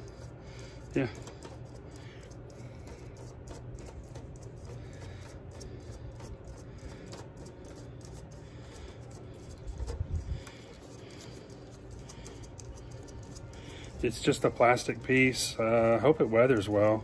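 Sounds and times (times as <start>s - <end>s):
metal rubbing and scraping: 0.0s - 17.0s.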